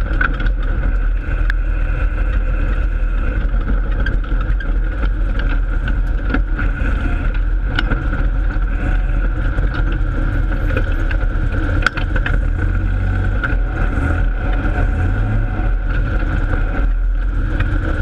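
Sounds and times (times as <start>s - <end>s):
race car engine drone: 0.0s - 18.0s
sharp knocks and rattles: 0.0s - 18.0s.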